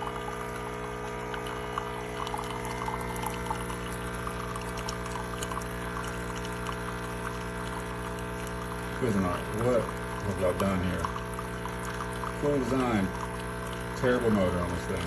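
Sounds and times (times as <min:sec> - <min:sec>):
coffee maker pump buzzing: 0:00.0 - 0:15.0
coffee pouring into cup: 0:00.0 - 0:15.0.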